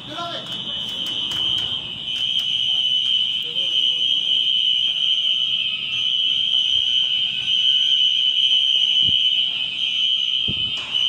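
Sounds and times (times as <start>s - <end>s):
fire alarm steady tone: 0.0s - 11.0s.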